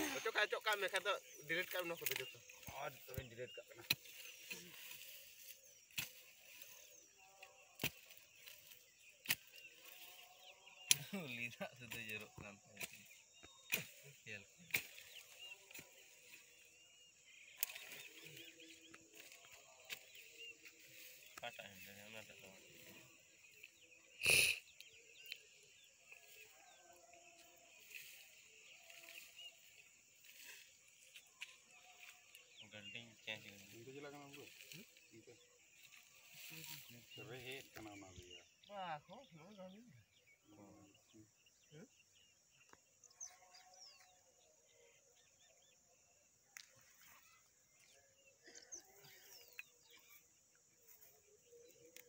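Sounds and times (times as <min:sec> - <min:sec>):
faint bird chirps: 0:00.0 - 0:52.0.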